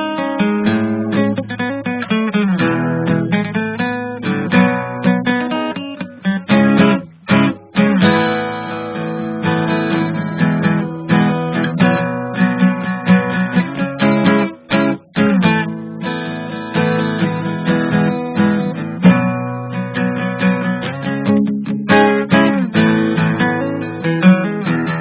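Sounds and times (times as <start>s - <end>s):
acoustic guitar strummed and plucked: 0.0s - 25.0s.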